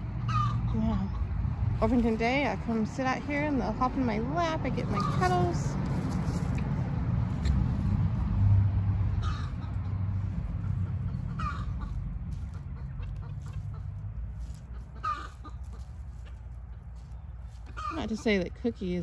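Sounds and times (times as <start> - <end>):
hens clucking: 0.0 - 8.1, 9.1 - 19.0
low steady rumble: 0.0 - 19.0.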